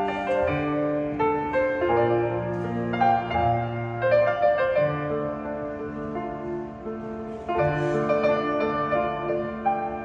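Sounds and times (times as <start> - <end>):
grand piano playing: 0.0 - 10.0.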